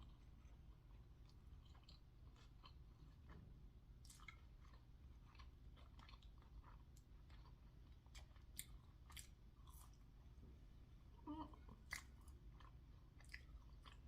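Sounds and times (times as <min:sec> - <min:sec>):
person chewing food: 0:00.0 - 0:10.5, 0:11.1 - 0:14.0
low steady hum: 0:00.0 - 0:14.0.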